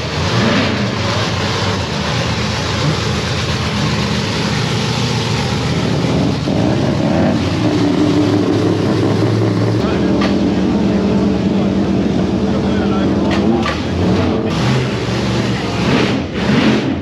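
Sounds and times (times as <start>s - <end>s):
race car engine running: 0.0s - 17.0s.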